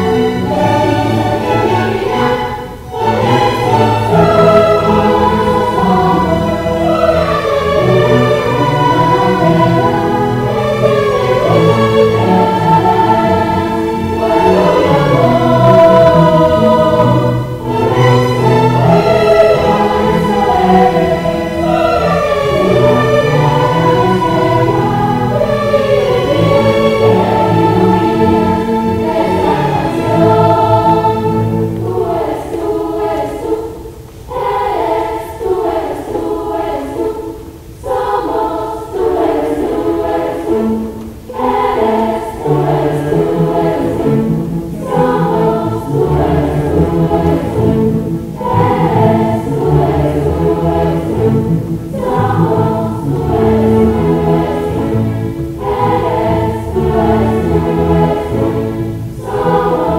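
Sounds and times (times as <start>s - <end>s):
children's choir singing: 0.0s - 59.9s
string orchestra: 0.0s - 59.9s.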